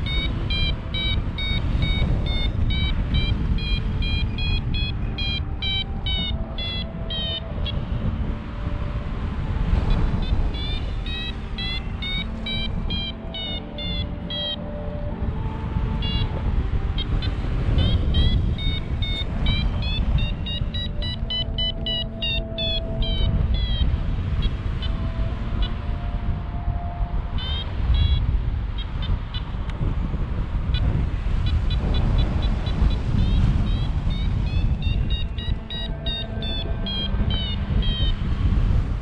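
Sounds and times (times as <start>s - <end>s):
variometer beeping: 0.0s - 8.0s, 9.9s - 14.9s, 15.9s - 26.1s, 27.4s - 29.6s, 30.7s - 38.3s
wind noise on microphone: 0.0s - 39.0s.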